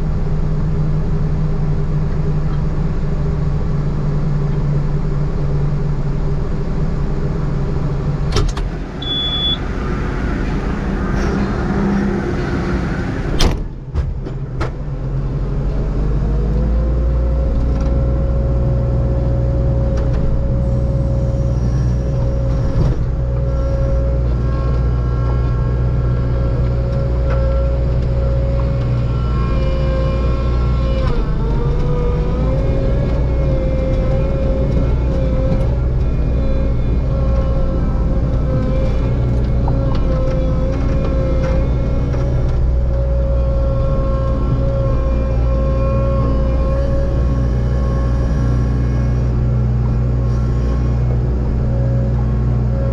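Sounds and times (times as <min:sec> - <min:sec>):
steady whine: 0:00.0 - 0:52.9
mulcher engine under load: 0:00.1 - 0:52.9.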